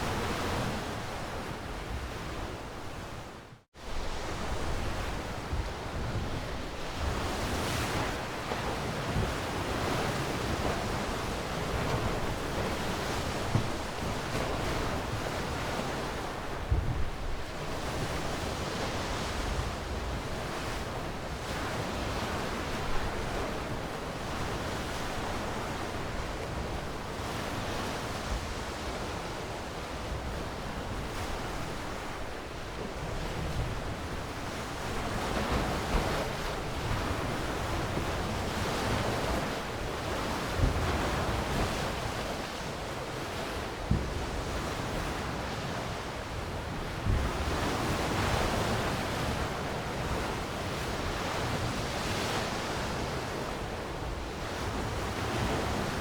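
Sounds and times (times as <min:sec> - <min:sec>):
sea waves washing ashore: 0:00.0 - 0:56.0.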